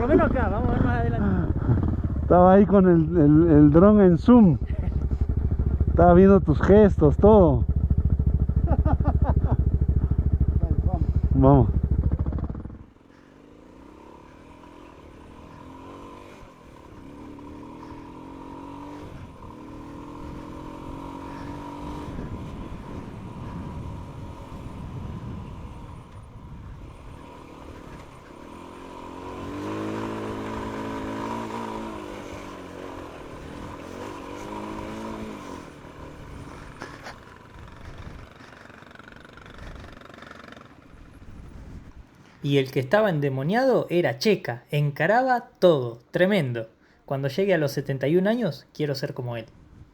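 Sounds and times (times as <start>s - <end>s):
motorcycle engines revving: 0.0s - 43.8s.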